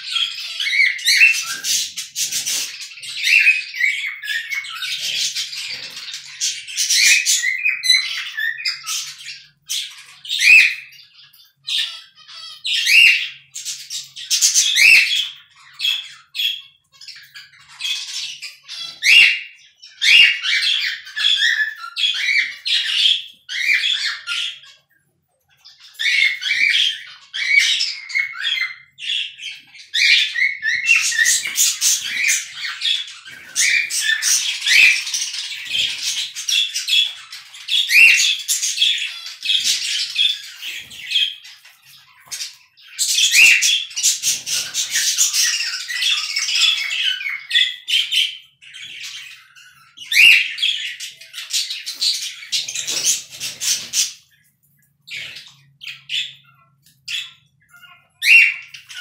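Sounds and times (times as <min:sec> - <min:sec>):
cockatiel whistling and chirping: 0:00.0 - 0:24.8, 0:25.6 - 0:54.2, 0:55.1 - 0:59.0.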